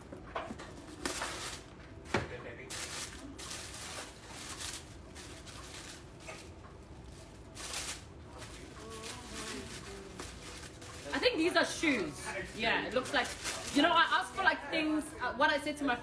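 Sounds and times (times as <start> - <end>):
paper and cardboard rustling: 0.4 - 15.0.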